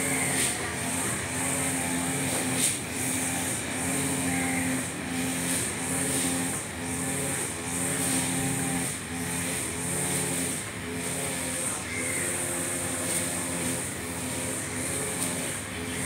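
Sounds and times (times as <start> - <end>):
brush cutter engine cutting grass: 0.0 - 16.0.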